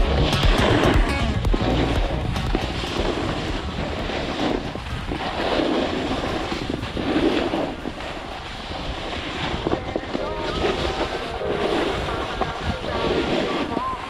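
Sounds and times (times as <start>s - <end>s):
snowboard scraping over snow: 0.0s - 14.0s
wind on microphone: 0.0s - 14.0s.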